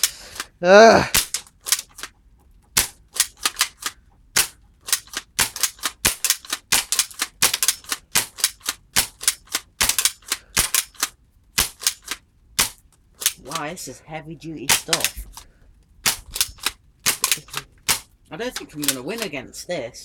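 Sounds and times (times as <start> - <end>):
bb guns firing: 1.1 - 2.1, 2.7 - 13.7, 14.6 - 19.4.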